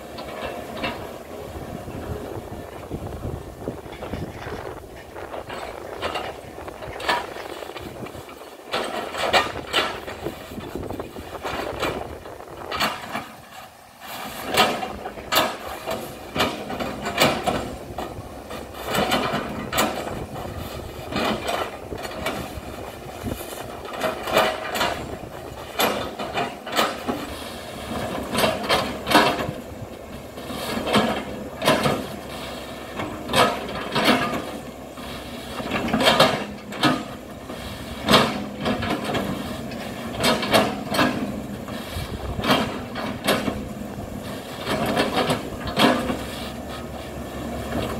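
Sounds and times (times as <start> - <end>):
excavator engine and hydraulics humming: 0.0 - 47.9.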